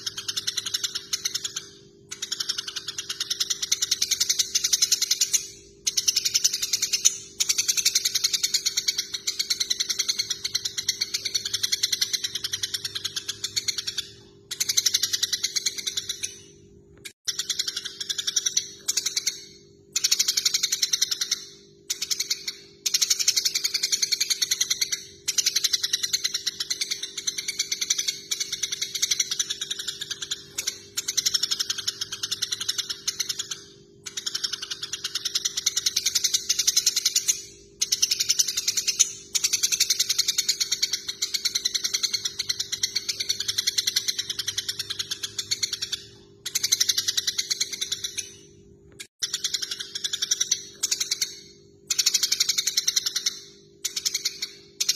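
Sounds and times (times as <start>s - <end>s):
sparrows chirping and scolding: 0.0s - 54.9s.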